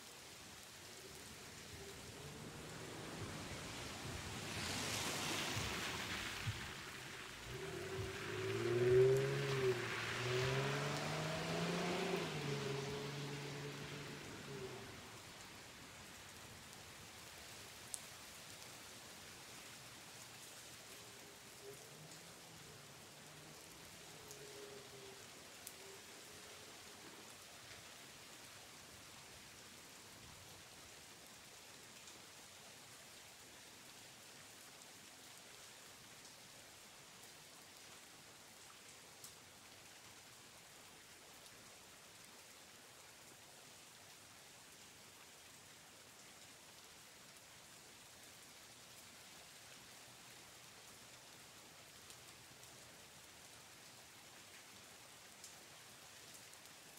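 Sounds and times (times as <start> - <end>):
steady hiss of falling rain: 0.0 - 56.9.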